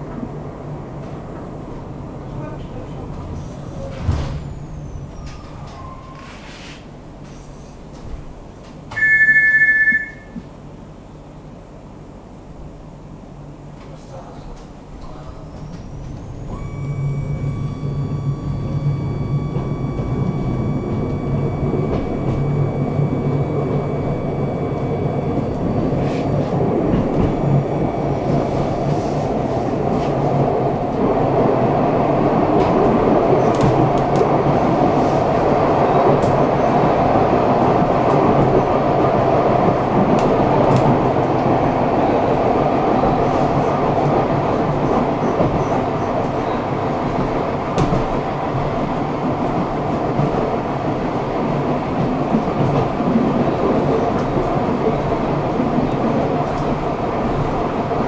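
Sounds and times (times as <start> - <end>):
tram wheels rolling on rails: 0.0 - 9.0, 13.7 - 58.0
tram electric drive whine: 0.0 - 58.0.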